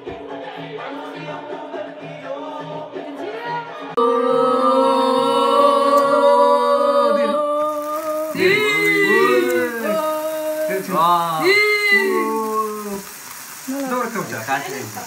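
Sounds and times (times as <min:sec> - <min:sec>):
person singing: 0:00.0 - 0:13.1.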